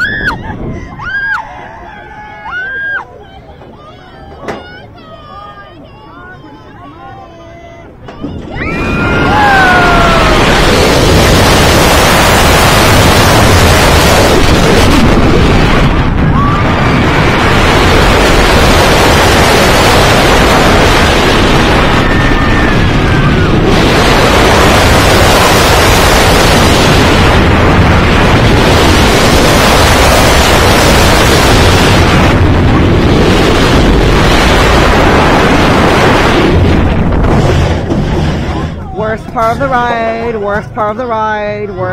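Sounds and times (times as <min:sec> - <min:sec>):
wind buffeting microphone: 0:00.0 - 0:02.5, 0:07.8 - 0:41.9
roller coaster train rumbling: 0:00.0 - 0:41.9.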